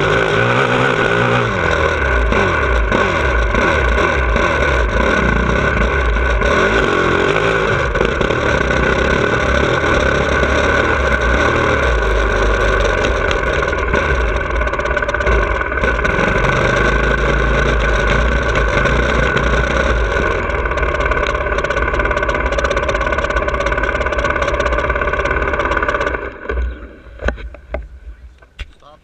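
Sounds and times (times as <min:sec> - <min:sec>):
motorcycle engine at low revs: 0:00.0 - 0:28.7.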